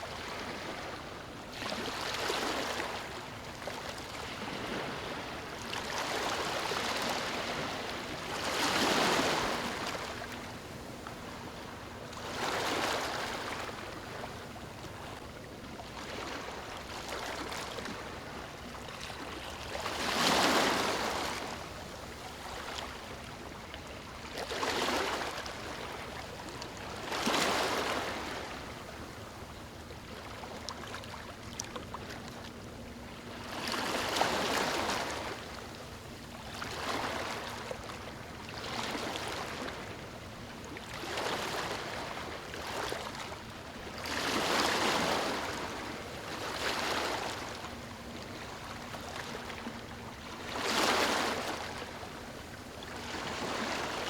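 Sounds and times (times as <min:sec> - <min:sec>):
small waves lapping on beach: 0:00.0 - 0:54.0.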